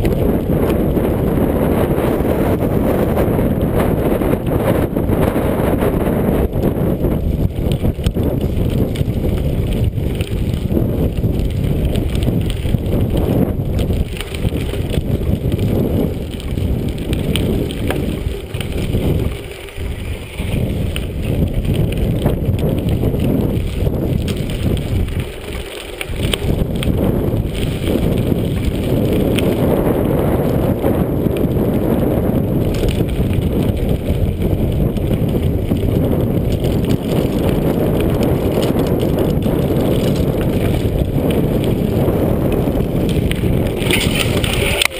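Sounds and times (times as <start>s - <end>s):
bike rattling and clicking: 0.0s - 44.9s
bike tyres rumbling on dirt trail: 0.0s - 44.9s.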